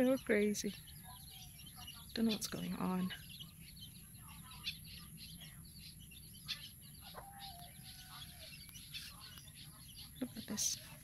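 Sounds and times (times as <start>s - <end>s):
many birds chirping: 0.0s - 11.0s.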